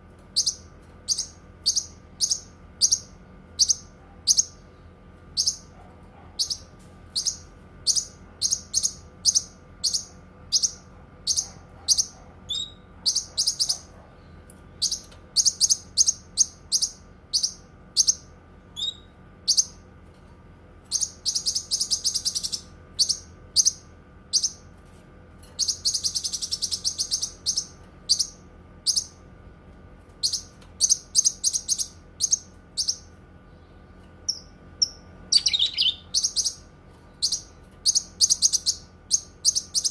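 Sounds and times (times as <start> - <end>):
bird chirping: 0.3 - 4.6, 5.4 - 5.7, 6.4 - 14.0, 14.8 - 19.8, 20.9 - 24.6, 25.6 - 29.2, 30.2 - 39.9
bird chattering trill: 0.4 - 4.6, 5.4 - 5.7, 6.4 - 13.9, 14.8 - 19.8, 20.9 - 24.6, 25.6 - 29.2, 30.2 - 33.1, 34.3 - 39.9.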